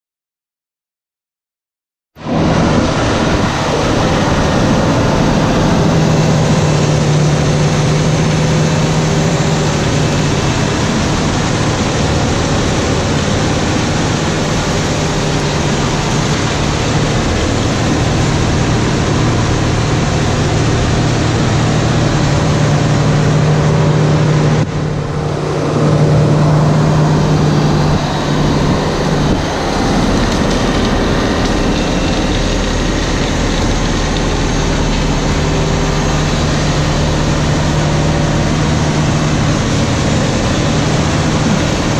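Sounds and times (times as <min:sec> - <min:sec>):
tractor diesel engine under load: 0:02.2 - 0:41.9
wood chipper shredding branches: 0:02.2 - 0:41.9.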